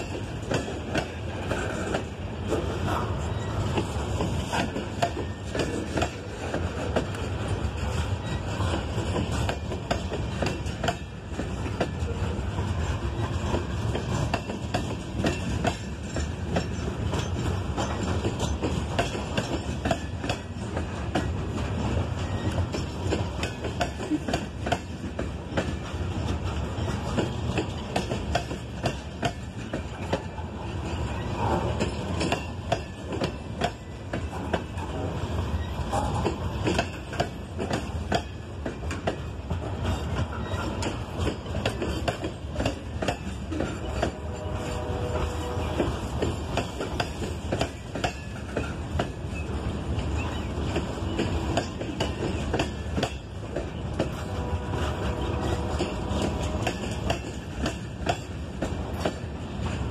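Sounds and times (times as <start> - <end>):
train wheels rolling on rail: 0.0 - 59.9
wheels clacking over track joints: 0.0 - 59.9.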